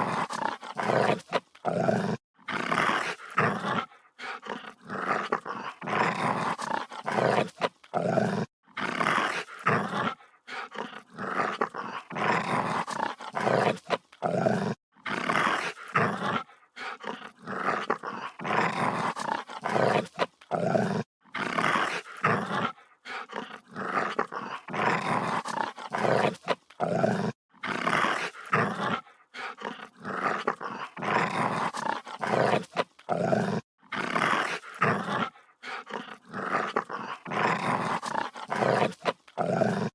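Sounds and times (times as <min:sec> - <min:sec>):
dog growling: 0:00.0 - 0:39.9.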